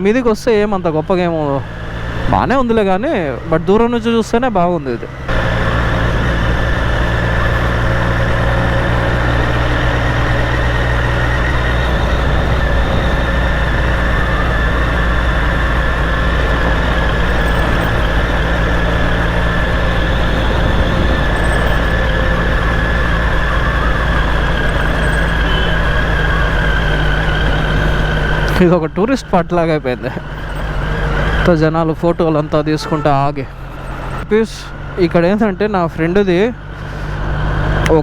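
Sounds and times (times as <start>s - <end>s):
motorcycle engine running: 0.0s - 38.0s
road and wind noise: 0.0s - 38.0s.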